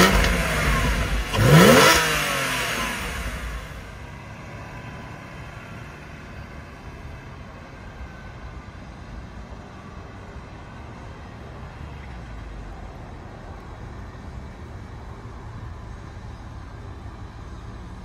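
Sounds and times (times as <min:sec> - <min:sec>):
car engine running at low speed: 0:00.0 - 0:18.0.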